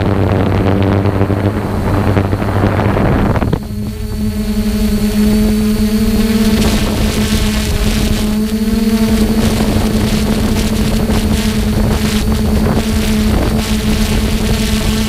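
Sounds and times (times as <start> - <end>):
drone propellers humming: 0.0 - 15.0
wind noise on microphone: 0.0 - 15.0.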